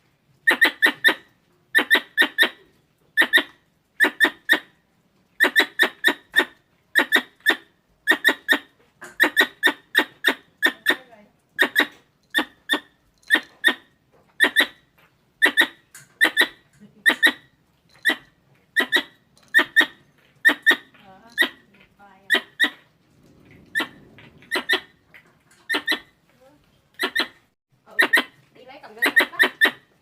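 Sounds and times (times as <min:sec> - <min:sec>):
squirrel chirps: 0:00.4 - 0:02.6, 0:03.2 - 0:04.7, 0:05.4 - 0:22.8, 0:23.7 - 0:25.0, 0:25.7 - 0:26.2, 0:26.9 - 0:29.9.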